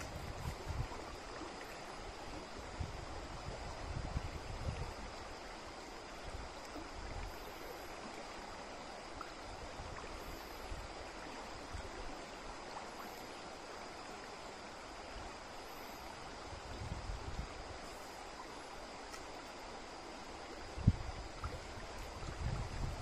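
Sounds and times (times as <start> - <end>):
stream flowing over stones: 0.0 - 23.0.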